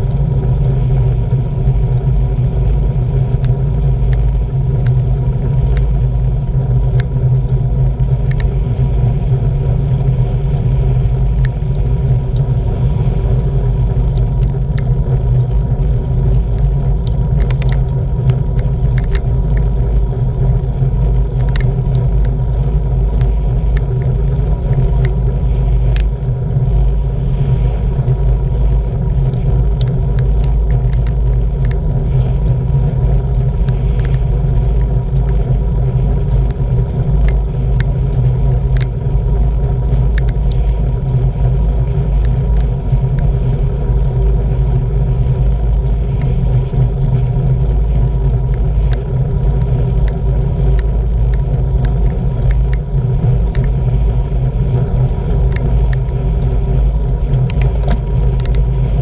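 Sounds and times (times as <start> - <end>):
steady hum: 0.0 - 59.0
wind rumbling on microphone: 0.0 - 59.0
small clicks from bike: 0.1 - 59.0.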